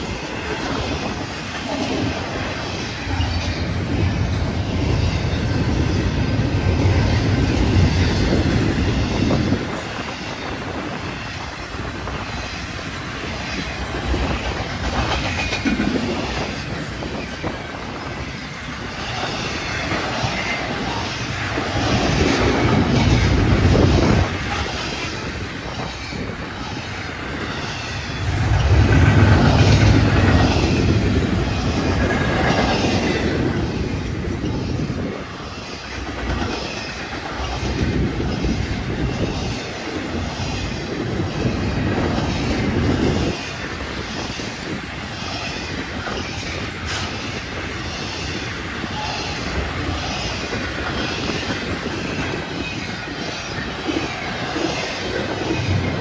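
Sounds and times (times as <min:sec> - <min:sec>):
rhythmic clicking of rails: 0:00.0 - 0:56.0
train wheels rumbling on rails: 0:00.0 - 0:56.0.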